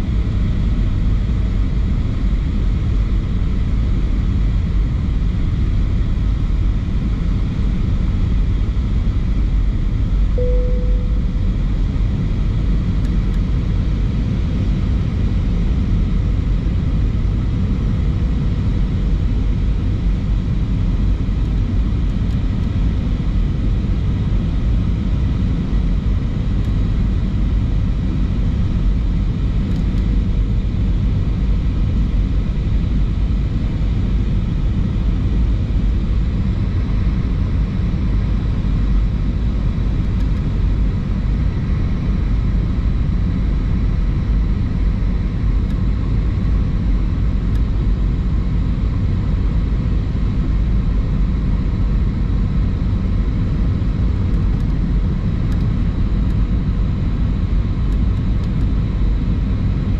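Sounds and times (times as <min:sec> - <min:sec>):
airplane cabin engine rumble: 0:00.0 - 0:59.9
faint steady whine: 0:05.4 - 0:59.9.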